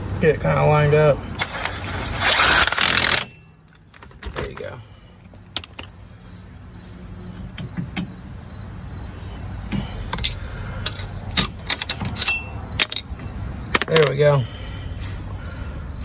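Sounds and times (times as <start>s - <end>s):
crickets chirping: 0.0s - 2.6s, 4.6s - 16.0s.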